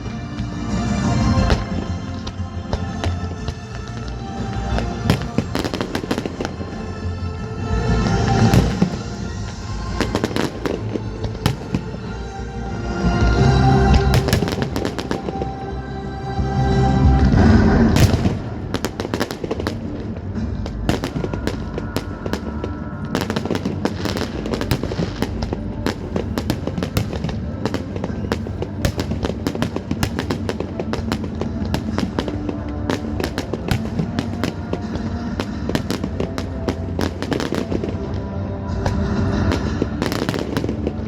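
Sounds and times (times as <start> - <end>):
fireworks bangs and crackles: 0.0 - 12.5, 13.1 - 15.6, 17.0 - 41.0
music playing: 0.0 - 41.0.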